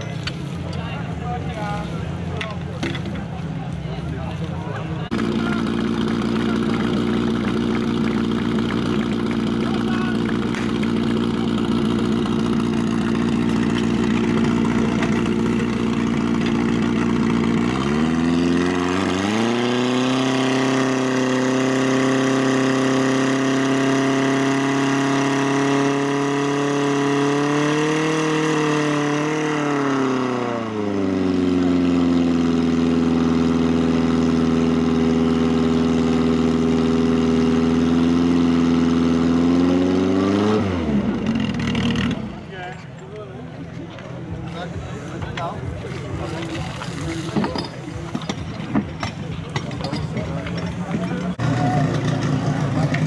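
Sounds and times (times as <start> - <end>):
pump engine revving: 0.0 - 42.6, 44.7 - 53.0.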